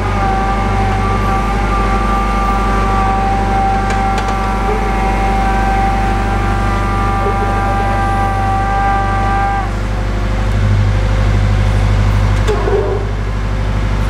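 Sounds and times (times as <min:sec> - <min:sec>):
drill rig engine drone: 0:00.0 - 0:14.0
hydraulic whine: 0:00.0 - 0:14.0.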